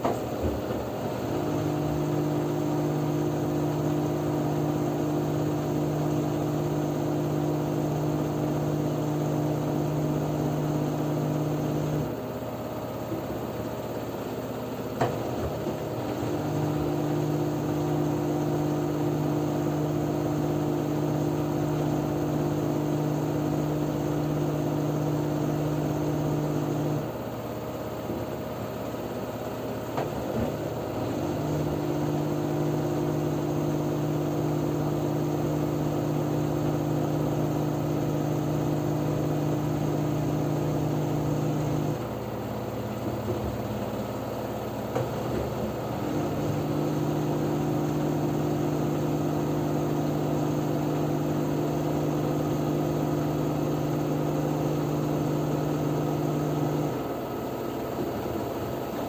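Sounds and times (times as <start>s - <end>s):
washing machine running noise: 0.0s - 59.0s
washing machine spin cycle hum: 0.0s - 59.0s.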